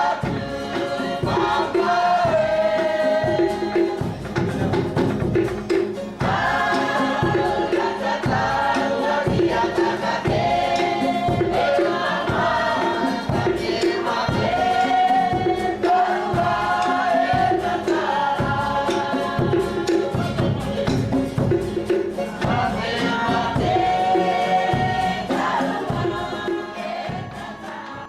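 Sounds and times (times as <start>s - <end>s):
choir singing in harmony: 0.0s - 28.0s
percussion with steady beat: 0.0s - 28.0s.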